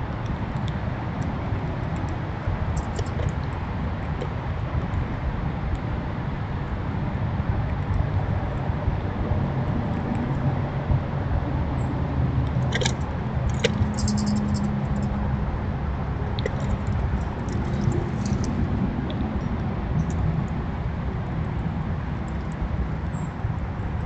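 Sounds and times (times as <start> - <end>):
distant traffic rumble: 0.0 - 24.0.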